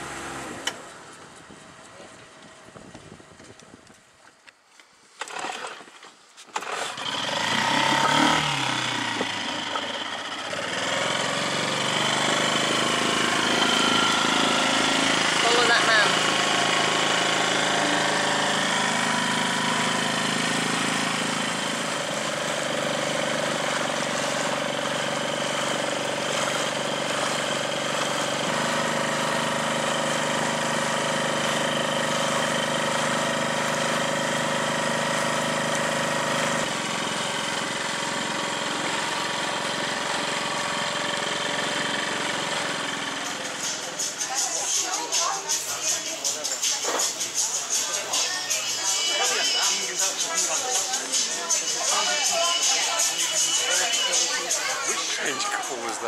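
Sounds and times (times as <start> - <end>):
small outboard motor running: 0.0 - 3.8, 5.2 - 56.0.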